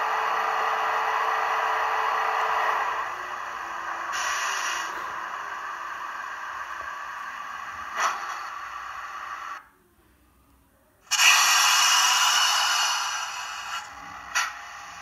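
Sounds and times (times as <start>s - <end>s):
steady hissing noise: 0.0s - 9.7s, 11.0s - 15.0s.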